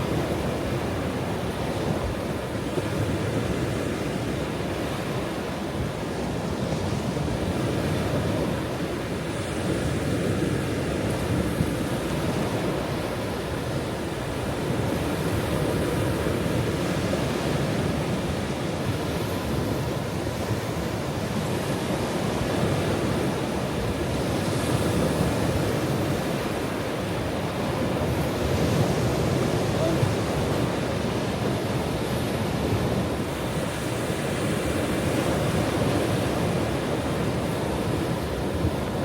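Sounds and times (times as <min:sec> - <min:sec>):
ocean waves breaking on shore: 0:00.0 - 0:39.0.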